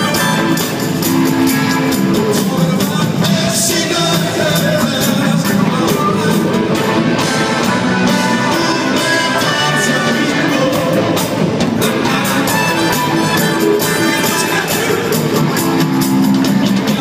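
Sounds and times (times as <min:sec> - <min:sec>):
drums beating: 0:00.0 - 0:17.0
live rock band playing: 0:00.0 - 0:17.0.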